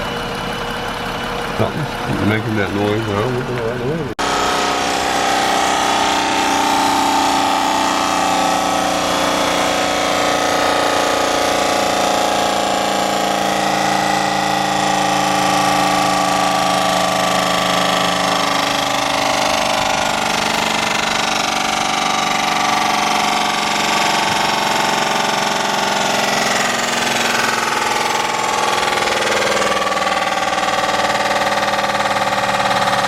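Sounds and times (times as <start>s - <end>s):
rapid rattle from car: 4.8s - 33.0s.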